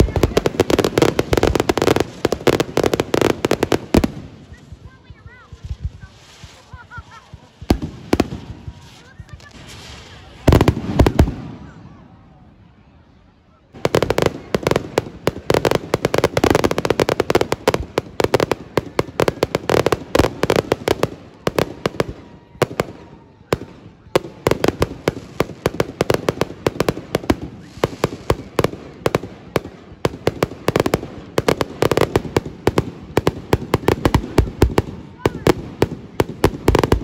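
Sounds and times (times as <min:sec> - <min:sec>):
fireworks bangs and crackling: 0:00.0 - 0:12.6, 0:13.7 - 0:37.0.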